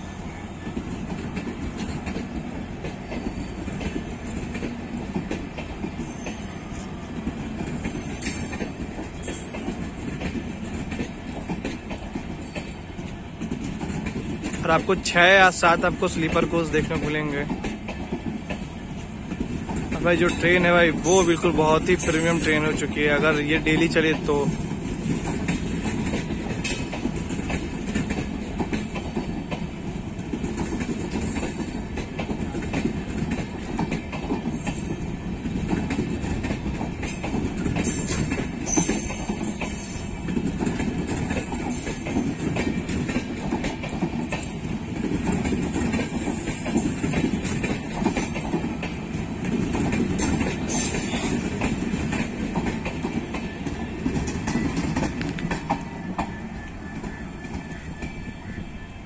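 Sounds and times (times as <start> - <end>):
clickety-clack over rail joints: 0.0 - 59.0
train wheels rumbling on rail: 0.0 - 59.0.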